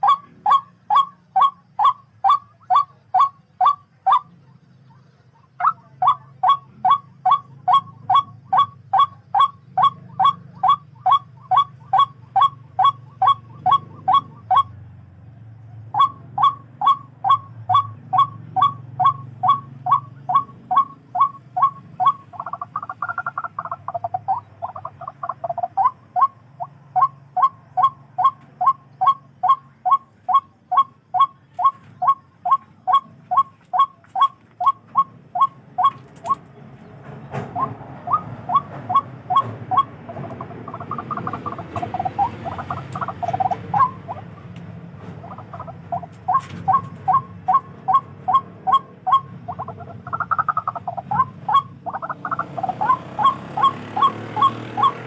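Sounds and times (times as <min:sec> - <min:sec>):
rail bird calling sharp notes: 0:00.0 - 0:14.9, 0:15.9 - 0:55.0.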